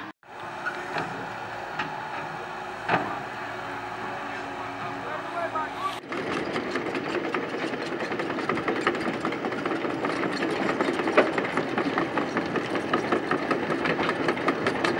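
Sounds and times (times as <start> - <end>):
small engine clattering: 0.0 - 14.9.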